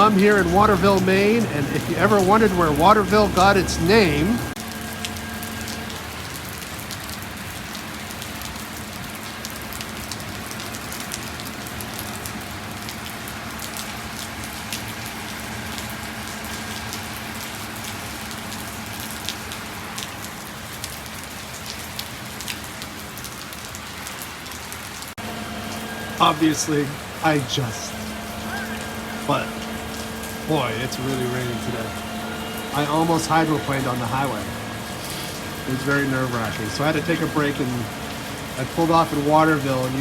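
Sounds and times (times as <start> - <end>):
heavy rain falling: 0.0 - 40.0
raindrops ticking on a surface: 0.0 - 40.0.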